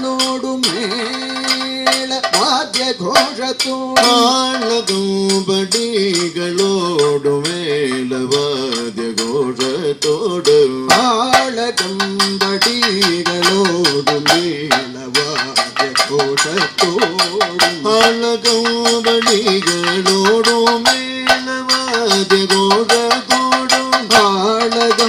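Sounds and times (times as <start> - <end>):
men singing: 0.0 - 25.0
sharp drum strokes: 0.0 - 25.0.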